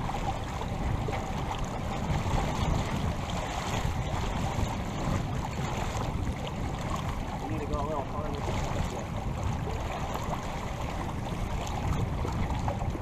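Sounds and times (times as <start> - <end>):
water rushing along hull: 0.0 - 13.0
wind rumbling on microphone: 0.0 - 13.0.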